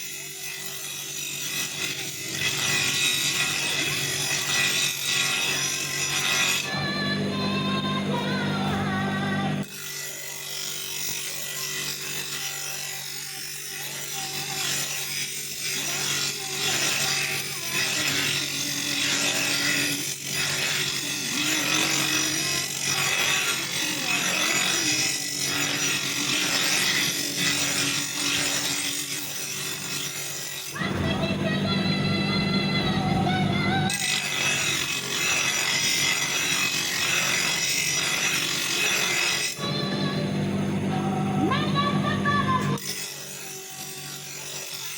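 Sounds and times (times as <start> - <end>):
hand tool rasping: 0.0 - 31.1, 33.8 - 40.0, 42.6 - 44.9.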